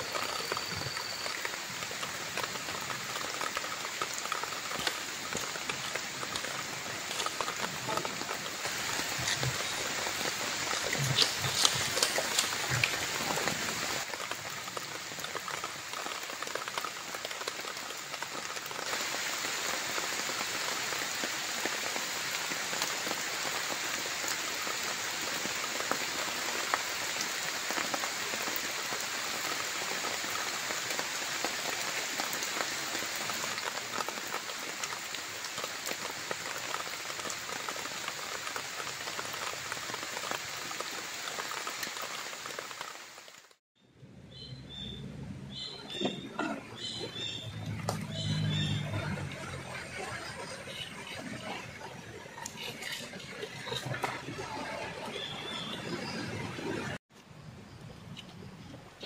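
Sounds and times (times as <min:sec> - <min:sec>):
rain on leaves: 0:00.0 - 0:43.6, 0:44.3 - 0:56.9.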